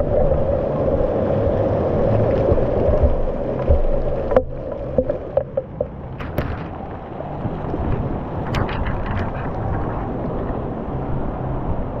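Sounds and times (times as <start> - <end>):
water sloshing against microphone: 0.0 - 12.0
water splashes: 0.0 - 12.0.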